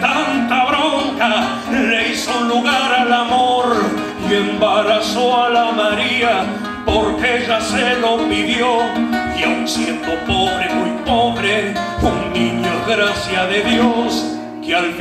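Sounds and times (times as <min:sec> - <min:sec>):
acoustic guitar: 0:00.0 - 0:15.0
man singing: 0:00.0 - 0:15.0.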